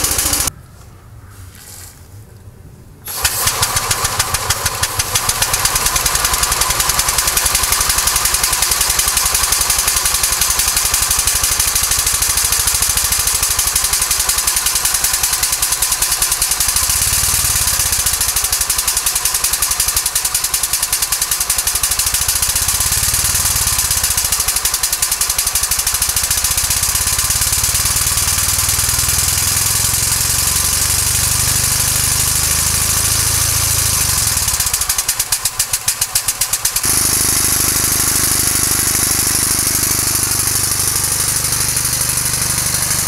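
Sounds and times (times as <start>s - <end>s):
steam engine running fast: 0.0s - 0.5s, 3.1s - 43.0s
steam hissing: 3.1s - 43.0s.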